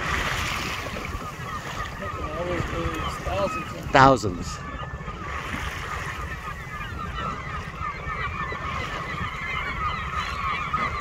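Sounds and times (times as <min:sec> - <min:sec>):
bird colony calling: 0:00.0 - 0:11.0.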